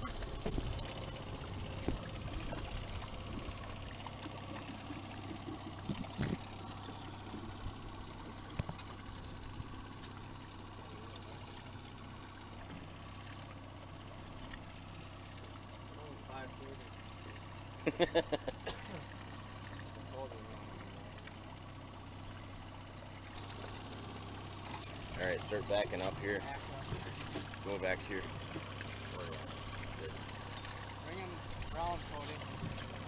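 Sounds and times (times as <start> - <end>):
outboard motor idling: 0.0 - 33.0.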